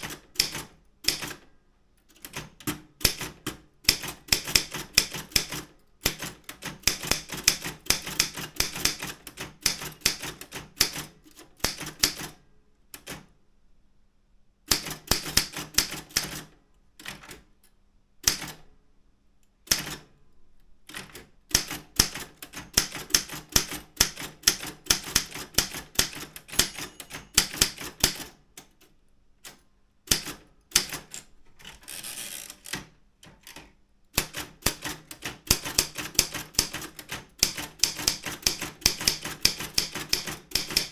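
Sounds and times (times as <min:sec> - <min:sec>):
typewriter keystrokes: 0:00.0 - 0:01.4, 0:02.1 - 0:12.4, 0:14.7 - 0:17.5, 0:18.2 - 0:18.6, 0:19.7 - 0:20.1, 0:20.9 - 0:40.9.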